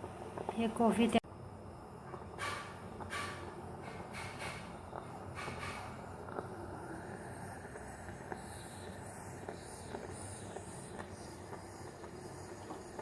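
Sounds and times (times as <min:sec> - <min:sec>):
moka pot steam hiss: 0:00.0 - 0:13.0.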